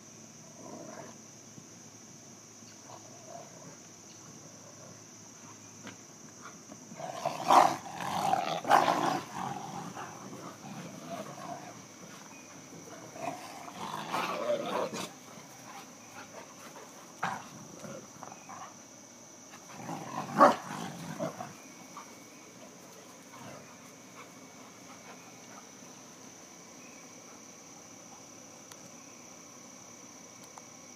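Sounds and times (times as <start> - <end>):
insects chirring: 0.0 - 30.9.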